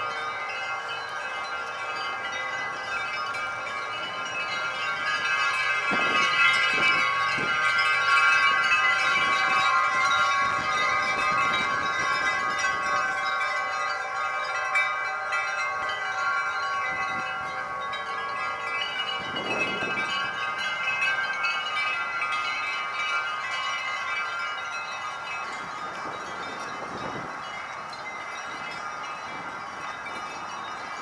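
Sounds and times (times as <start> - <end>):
wind chimes ringing: 0.0 - 31.0.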